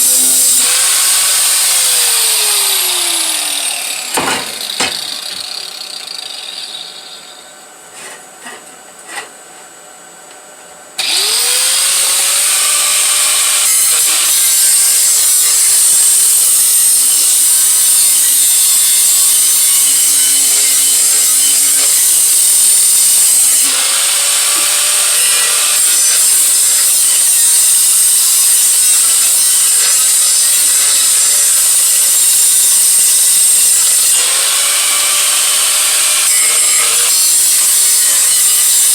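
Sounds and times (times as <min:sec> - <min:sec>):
power tool grinding metal: 0:00.0 - 0:09.3, 0:11.0 - 0:38.9.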